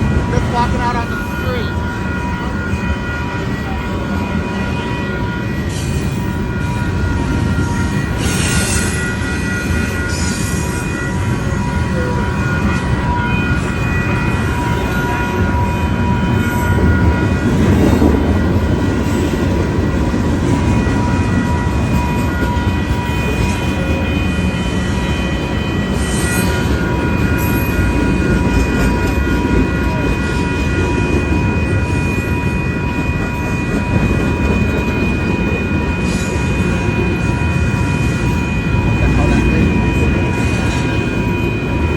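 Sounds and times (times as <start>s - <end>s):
crossing bell ringing: 0.0s - 41.9s
train wheels rumbling: 0.0s - 41.9s.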